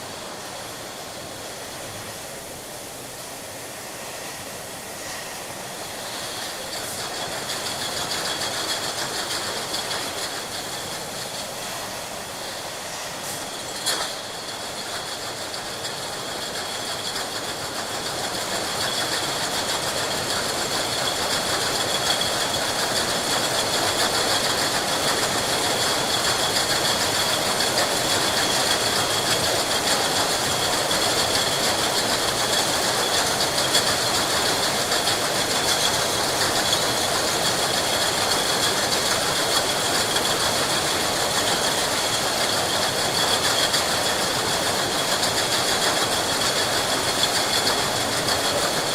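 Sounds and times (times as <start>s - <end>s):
machinery running: 5.9s - 48.9s.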